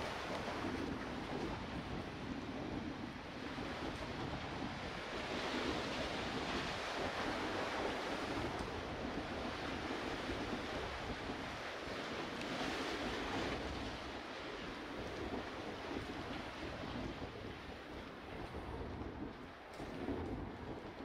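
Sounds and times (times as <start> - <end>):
sea waves washing on breakwater: 0.0 - 21.0
wind buffeting microphone: 0.0 - 21.0.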